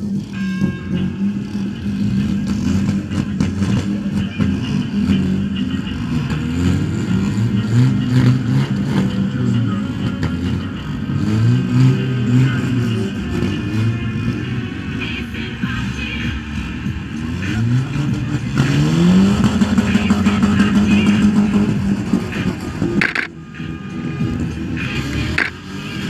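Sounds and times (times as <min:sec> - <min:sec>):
car and quad engines revving: 0:00.0 - 0:26.0.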